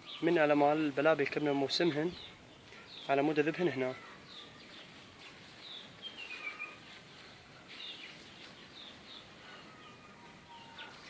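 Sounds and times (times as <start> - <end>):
bulbuls chirping: 0.0 - 11.0.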